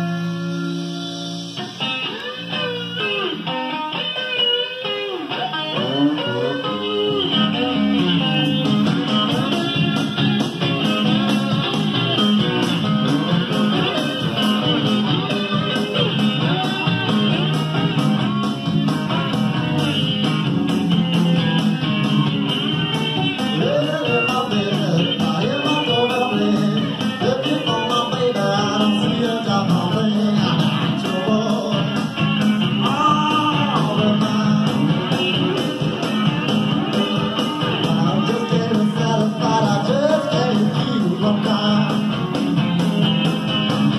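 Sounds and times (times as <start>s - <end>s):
blues band with electric guitar: 0.0s - 43.9s.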